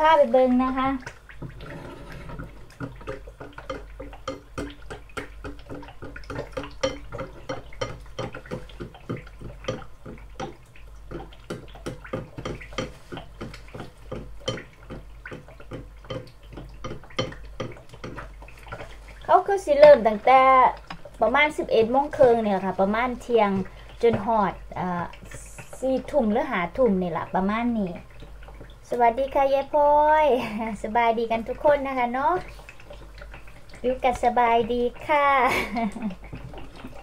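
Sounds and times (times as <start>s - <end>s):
eggs frying and crackling: 0.0s - 37.0s.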